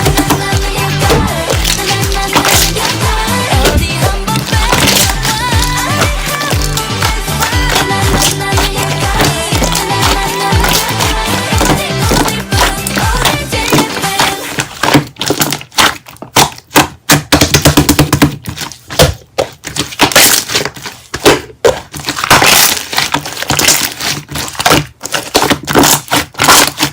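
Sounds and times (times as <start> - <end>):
slime crackling and popping: 0.0 - 17.3, 18.2 - 26.9.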